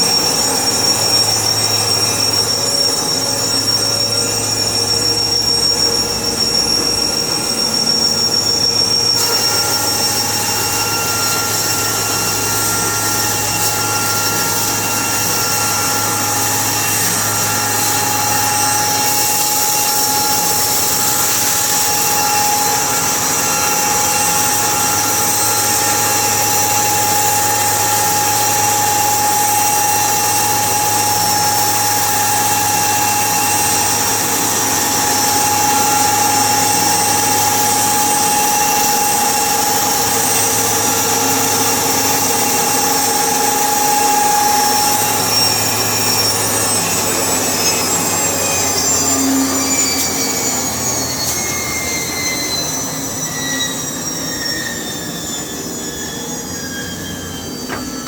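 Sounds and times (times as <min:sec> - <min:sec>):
machinery whining: 0:00.0 - 0:58.0.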